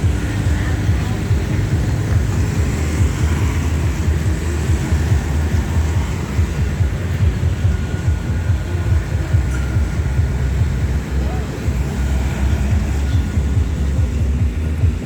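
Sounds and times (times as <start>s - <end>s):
heavy vehicle engines rumbling: 0.0s - 15.0s.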